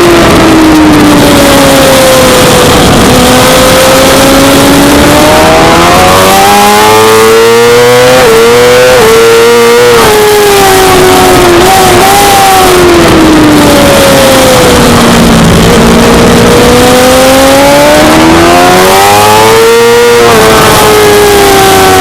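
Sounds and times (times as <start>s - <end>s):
motorcycle engine running hard: 0.0s - 22.0s
wind noise rushing: 0.0s - 22.0s.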